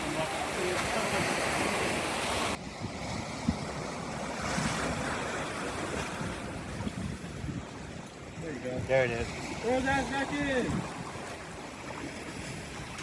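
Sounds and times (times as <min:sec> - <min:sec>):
ocean surf washing on beach: 0:00.0 - 0:13.0
wind buffeting microphone: 0:00.0 - 0:13.0.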